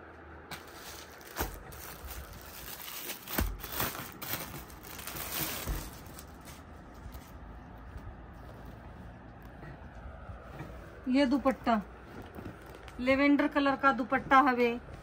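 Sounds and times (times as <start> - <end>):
fabric rustling: 0.5 - 15.0.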